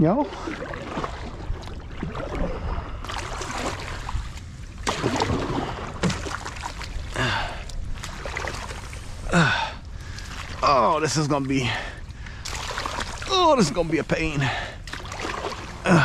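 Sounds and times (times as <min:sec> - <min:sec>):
kayak paddle strokes in water: 0:00.2 - 0:16.0.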